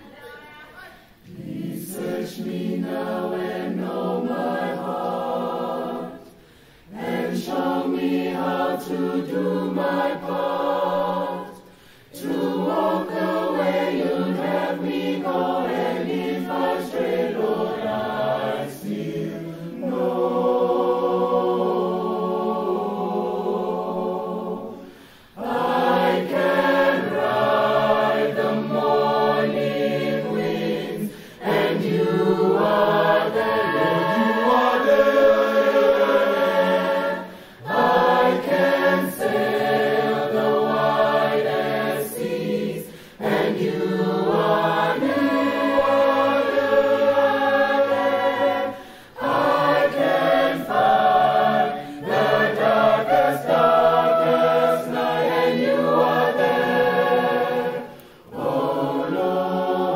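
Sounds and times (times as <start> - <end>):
choir singing a cappella: 1.1 - 59.9.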